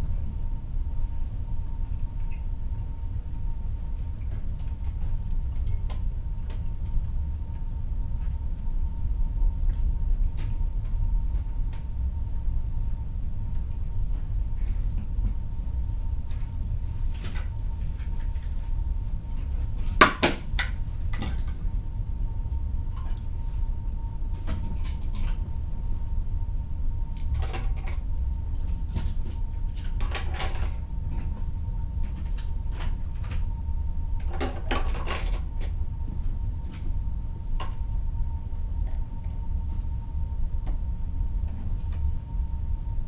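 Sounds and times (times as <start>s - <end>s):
faint constant hum: 0.0s - 43.0s
steady low rumble: 0.0s - 43.0s.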